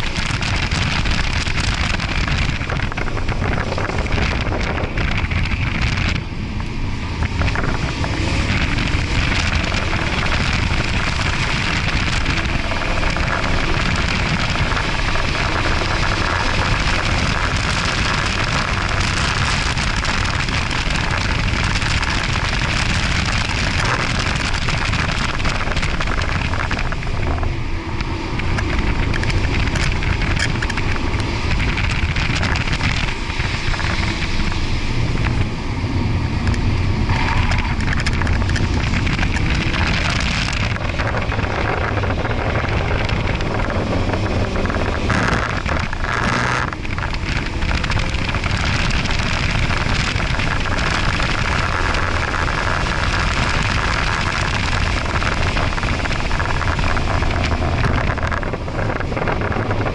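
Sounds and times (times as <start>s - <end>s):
car engine accelerating: 0.0s - 59.9s
wind and tyre noise: 0.0s - 59.9s.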